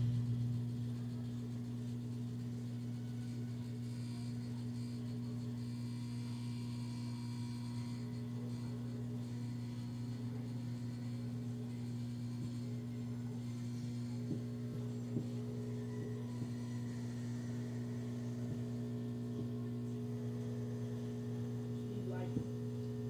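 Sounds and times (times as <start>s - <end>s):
low electric hum: 0.0s - 23.0s.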